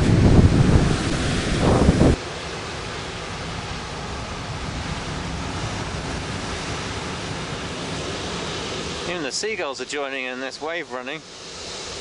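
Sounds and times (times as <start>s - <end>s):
wind buffeting microphone: 0.0s - 9.8s
distant surf breaking on rocks: 0.0s - 12.0s.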